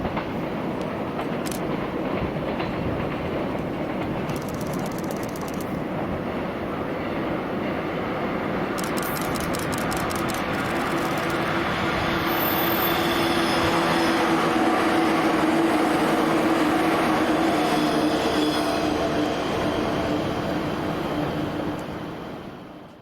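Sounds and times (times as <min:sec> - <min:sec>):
electric train passing at speed: 0:00.0 - 0:23.0.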